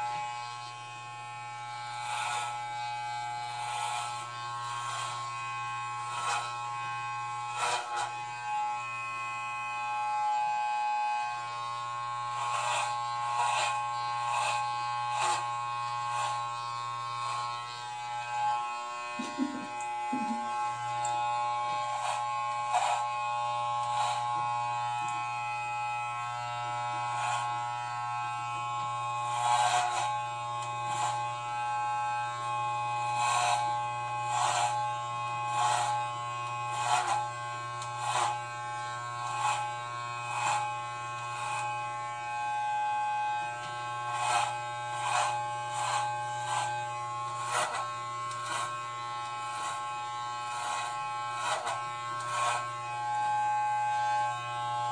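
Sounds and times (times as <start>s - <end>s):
electric hair clippers buzzing: 0.0s - 54.9s
clipper blade rasping through hair: 1.4s - 9.1s, 10.0s - 54.9s.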